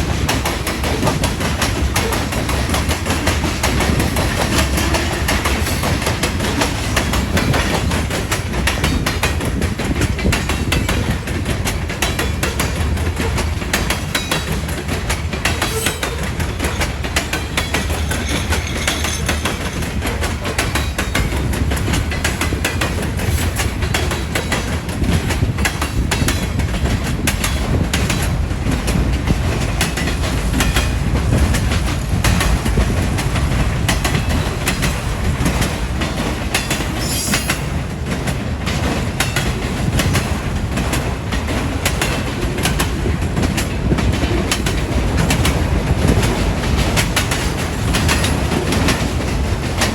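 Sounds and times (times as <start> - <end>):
low train rumble: 0.0 - 49.9
train wheels clacking over rail joints: 0.0 - 49.9.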